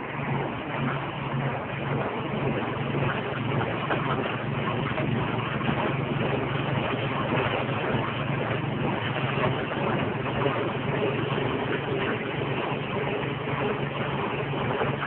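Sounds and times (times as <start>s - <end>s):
grinding machine engine hum: 0.0s - 15.0s.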